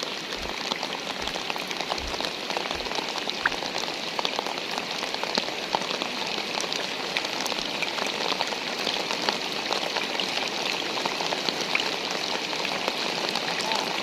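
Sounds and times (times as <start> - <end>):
raindrops tapping: 0.0 - 14.0
steady rain falling: 0.0 - 14.0.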